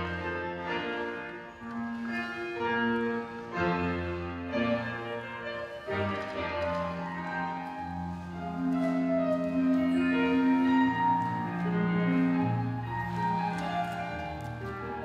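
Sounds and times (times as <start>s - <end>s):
instrumental music with long held notes: 0.0s - 15.0s.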